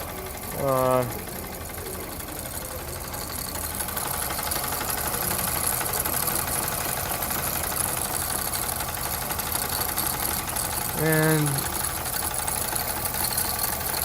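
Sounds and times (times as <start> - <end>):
steam engine mechanical chatter: 0.0 - 14.0.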